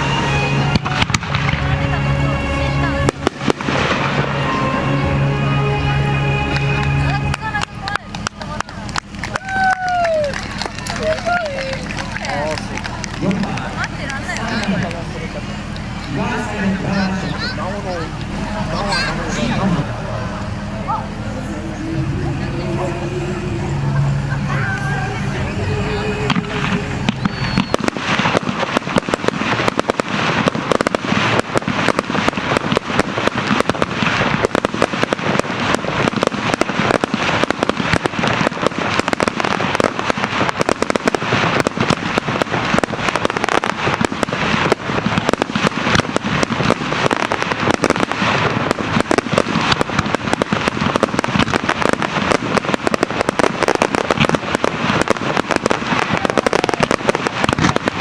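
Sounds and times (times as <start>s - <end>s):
fireworks crackling and popping: 0.0s - 58.0s.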